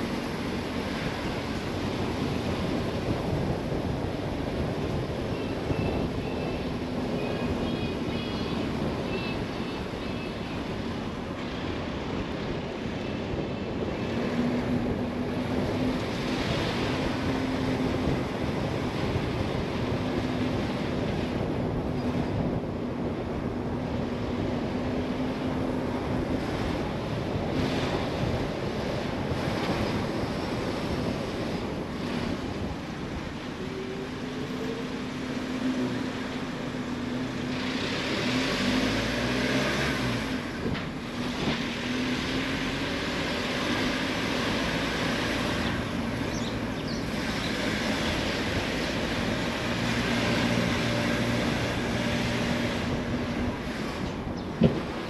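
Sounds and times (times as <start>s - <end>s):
car engine hum: 0.0s - 55.0s
road and wind rush: 0.0s - 55.0s.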